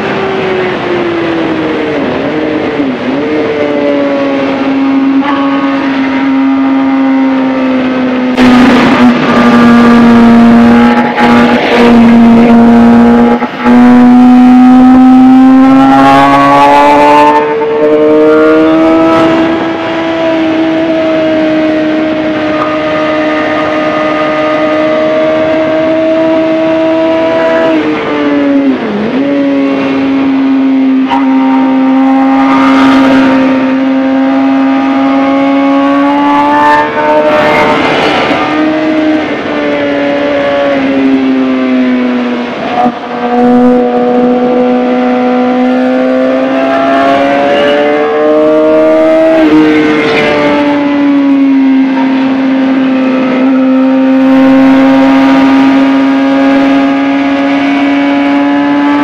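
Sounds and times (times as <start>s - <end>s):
motorcycle engine at high revs: 0.0s - 59.0s
wind noise gusts: 0.0s - 59.0s.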